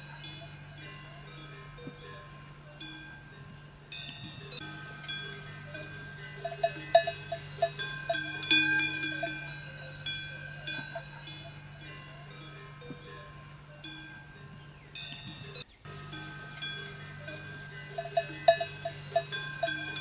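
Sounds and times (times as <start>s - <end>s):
livestock bells clanking: 0.0s - 20.0s
low steady hum: 0.0s - 20.0s.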